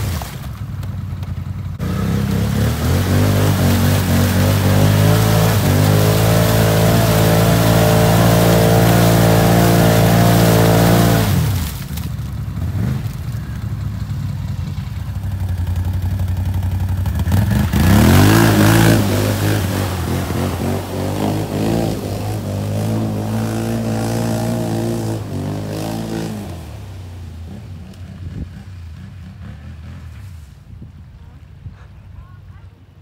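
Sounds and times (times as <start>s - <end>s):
atv engine revving: 0.0s - 30.5s
wheels spinning in mud: 0.0s - 31.2s.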